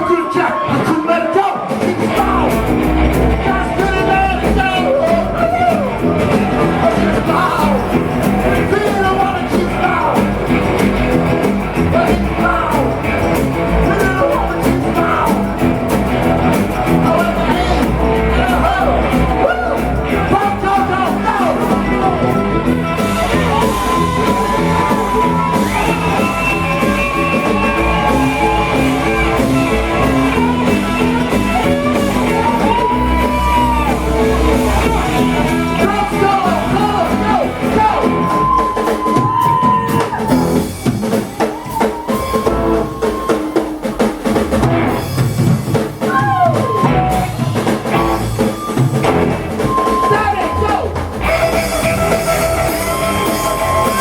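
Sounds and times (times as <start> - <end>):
drums and bass: 0.0 - 54.0
lead electric guitar: 2.0 - 40.9, 46.3 - 54.0.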